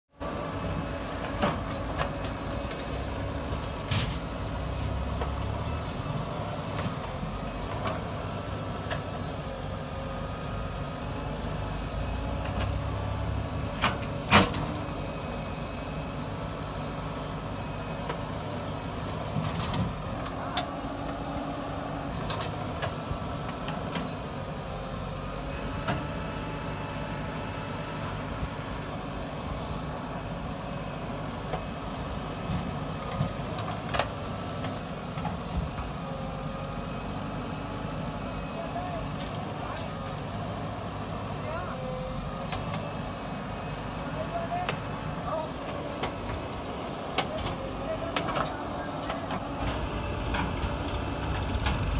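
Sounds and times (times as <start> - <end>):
diesel engine running: 0.1 - 51.9.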